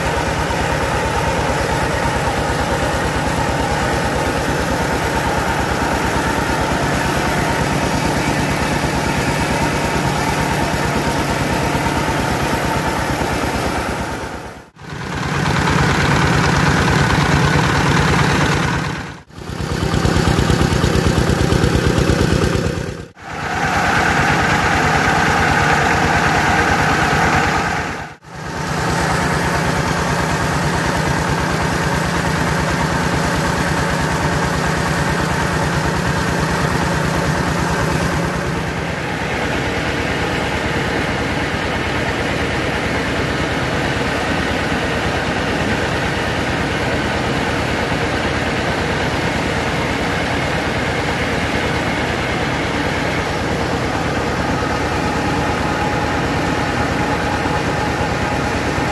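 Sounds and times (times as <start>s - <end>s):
rice milling machine running: 0.0s - 58.9s.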